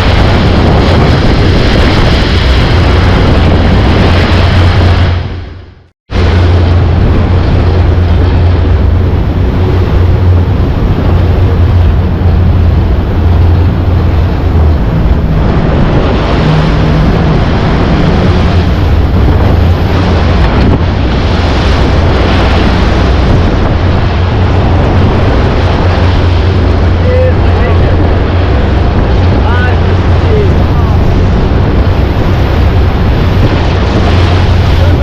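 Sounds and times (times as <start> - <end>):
boat engine drone: 0.0 - 35.0
rushing water: 0.0 - 35.0
wind buffeting microphone: 0.0 - 35.0.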